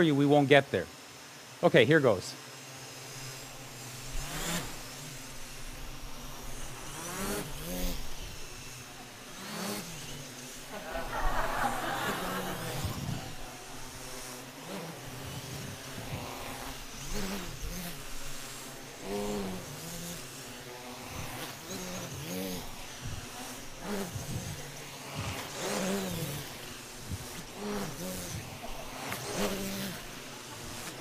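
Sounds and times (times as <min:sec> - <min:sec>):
quadcopter propellers whirring: 0:00.0 - 0:31.0.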